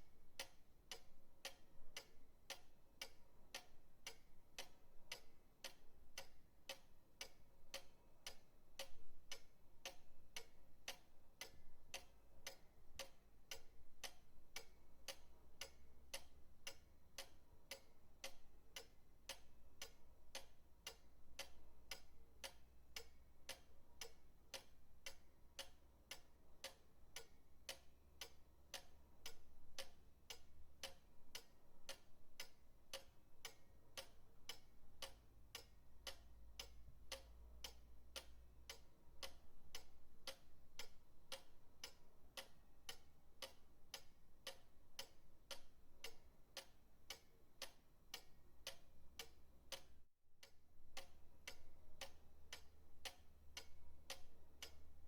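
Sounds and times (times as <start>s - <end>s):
pendulum clock ticking: 0.0s - 55.0s.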